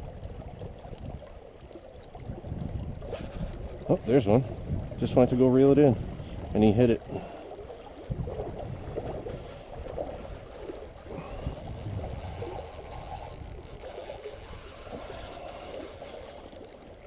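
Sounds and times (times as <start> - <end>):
creek water rushing and gurgling: 0.0 - 17.0.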